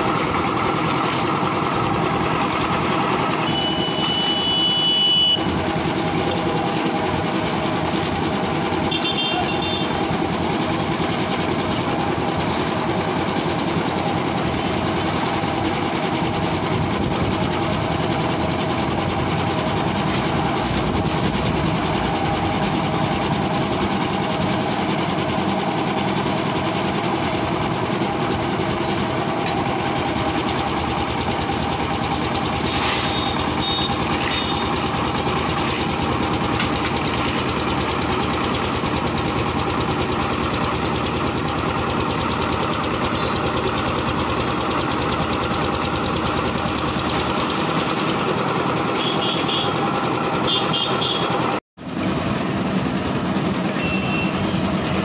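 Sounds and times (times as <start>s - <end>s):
concrete mixer engine running: 0.0s - 55.0s.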